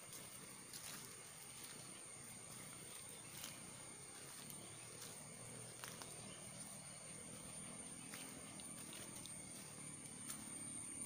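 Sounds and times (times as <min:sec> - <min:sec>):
footsteps on dry leaves: 0:00.0 - 0:11.0
high-pitched insect drone: 0:00.0 - 0:11.0.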